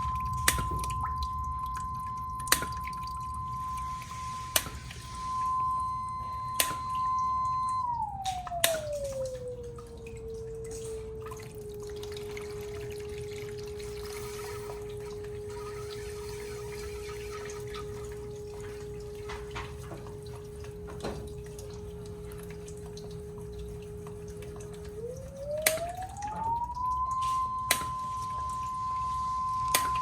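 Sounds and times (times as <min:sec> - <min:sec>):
low hum: 0:00.0 - 0:30.0
sine wave tone: 0:00.0 - 0:30.0
trickling water: 0:00.0 - 0:30.0.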